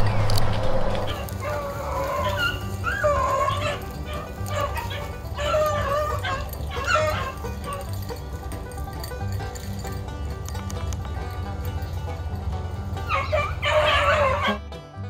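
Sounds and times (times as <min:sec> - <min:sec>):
dogs baying and yelping: 0:00.0 - 0:14.6.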